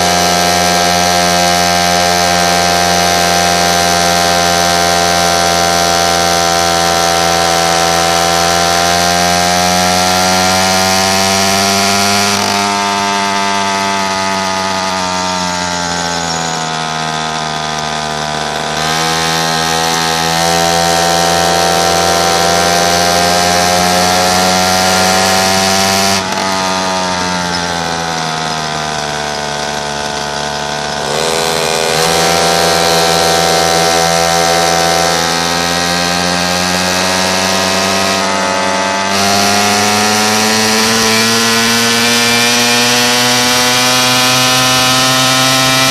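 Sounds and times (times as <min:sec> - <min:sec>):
small motorbike engine revving: 0:00.0 - 0:45.9.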